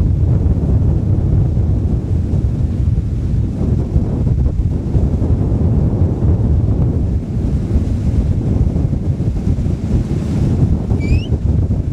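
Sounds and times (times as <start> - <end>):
boat wake rushing on water: 0.0 - 11.9
wind buffeting microphone: 0.0 - 11.9.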